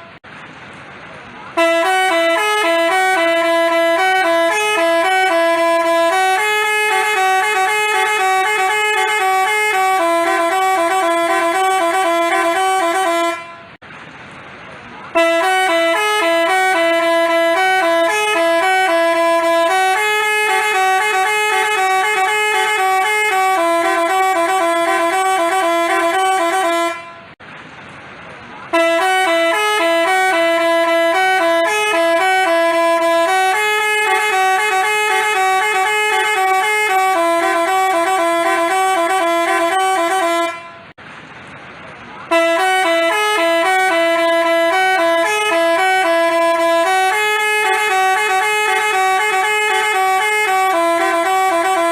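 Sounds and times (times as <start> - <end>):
bus horn melody: 0.0 - 0.2, 1.5 - 13.8, 15.1 - 27.4, 28.7 - 41.0, 42.2 - 51.9.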